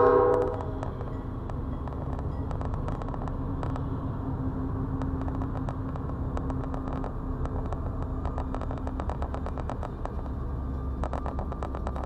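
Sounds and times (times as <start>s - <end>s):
locomotive engines droning: 0.0s - 12.0s
train wheels clicking on rails: 0.0s - 12.0s.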